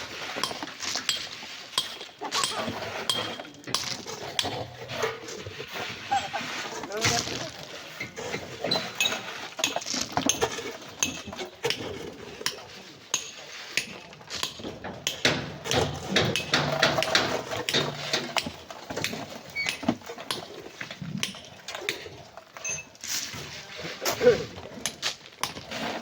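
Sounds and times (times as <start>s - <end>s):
digging tools striking sand and rock: 0.0s - 6.0s, 6.8s - 26.0s.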